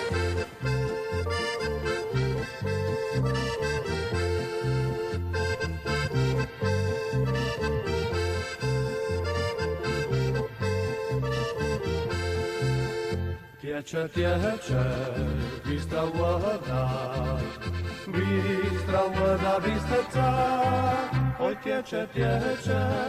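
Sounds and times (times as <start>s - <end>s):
pulsing bass: 0.0s - 13.4s, 14.2s - 21.5s, 22.2s - 23.0s
accordion chords: 0.0s - 23.0s.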